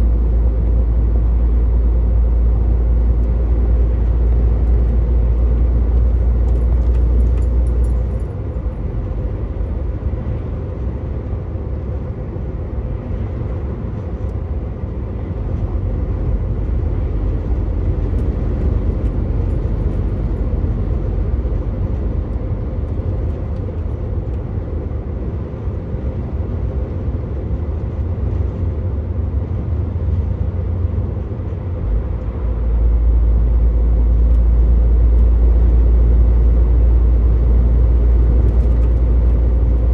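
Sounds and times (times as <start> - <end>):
truck engine rumble: 0.0 - 39.9.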